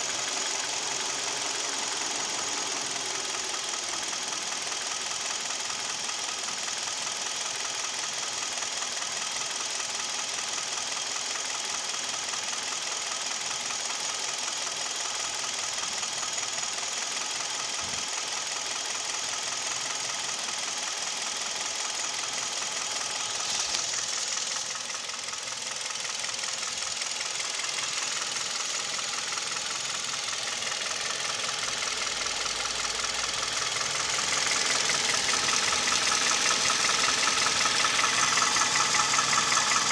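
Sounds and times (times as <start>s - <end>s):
car engine running: 0.0s - 39.9s
steady engine knock: 0.0s - 39.9s.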